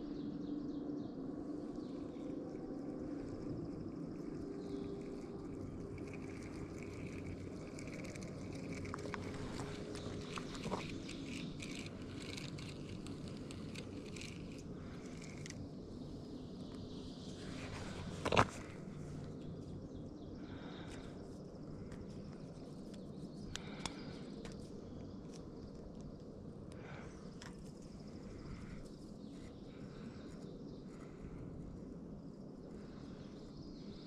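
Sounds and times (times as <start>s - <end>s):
steady outdoor hiss: 0.0s - 34.0s.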